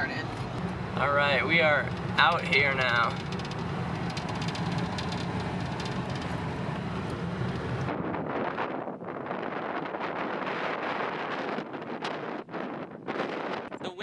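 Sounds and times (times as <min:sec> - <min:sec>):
car engine and road noise: 0:00.0 - 0:14.0
wind buffeting microphone: 0:00.0 - 0:14.0.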